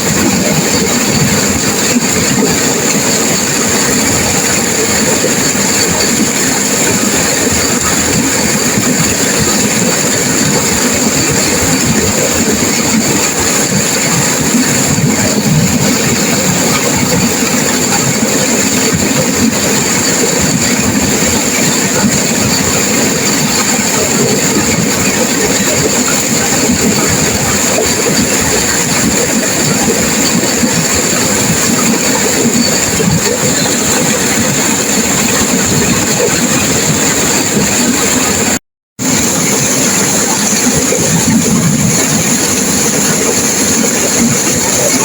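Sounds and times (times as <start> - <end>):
river water rushing over rocks: 0.0 - 45.0.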